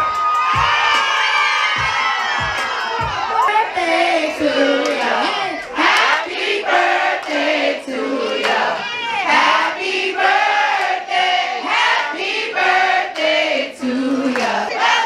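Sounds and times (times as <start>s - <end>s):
crowd singing and chanting: 0.0s - 15.0s.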